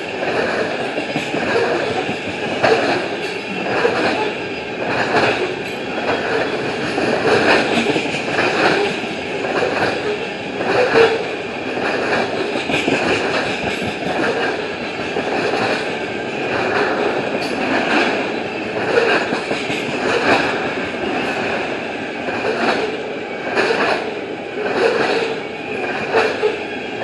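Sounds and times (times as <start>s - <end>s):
train rolling rumble: 0.0s - 27.0s
train wheels clacking over rail joints: 0.0s - 27.0s.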